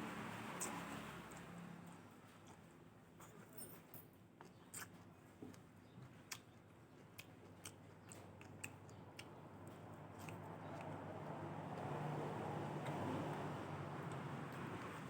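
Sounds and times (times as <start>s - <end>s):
chewing with crisp clicks: 0.6s - 3.5s, 4.4s - 15.0s.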